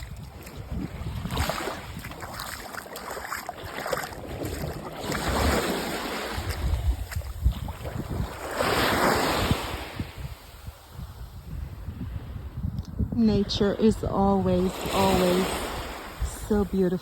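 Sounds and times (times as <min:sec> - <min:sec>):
waves washing in: 0:00.0 - 0:11.3, 0:13.3 - 0:17.0
wind buffeting microphone: 0:00.0 - 0:17.0.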